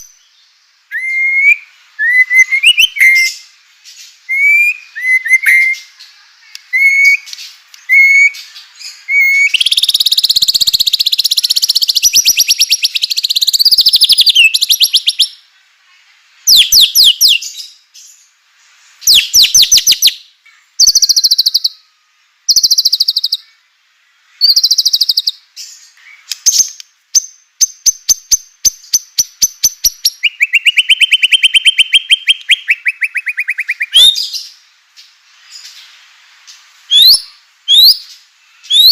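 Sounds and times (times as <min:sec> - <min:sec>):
songbird singing trills: 0:00.0 - 0:15.5, 0:16.4 - 0:18.4, 0:19.0 - 0:34.7, 0:36.6 - 0:38.9.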